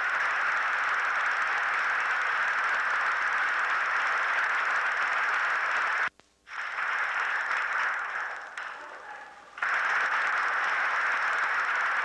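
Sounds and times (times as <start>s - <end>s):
film soundtrack hiss: 0.0s - 12.0s.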